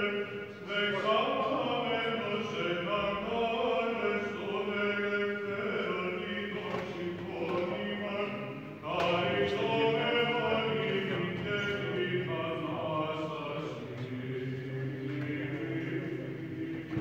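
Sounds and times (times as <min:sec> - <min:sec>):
male voices chanting: 0:00.0 - 0:17.0.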